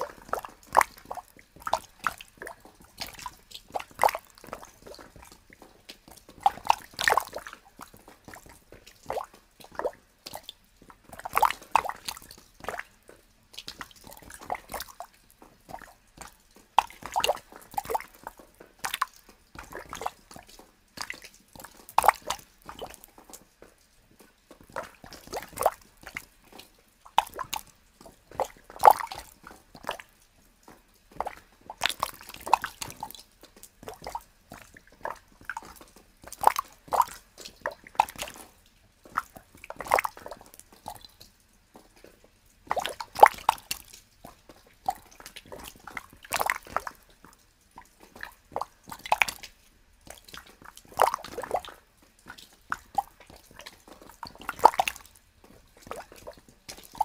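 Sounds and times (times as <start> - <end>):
water drops plopping into snow: 0.0 - 57.0.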